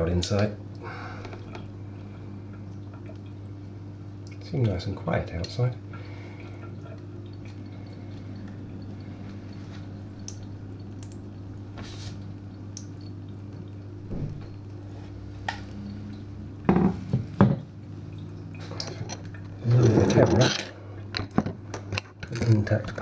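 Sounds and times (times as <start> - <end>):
water dripping: 0.0 - 19.8
steady low hum: 0.0 - 22.7.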